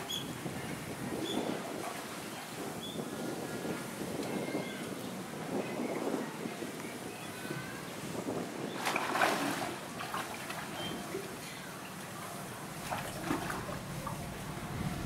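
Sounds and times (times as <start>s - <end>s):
water splashing and sloshing: 0.0s - 5.7s, 6.3s - 15.0s.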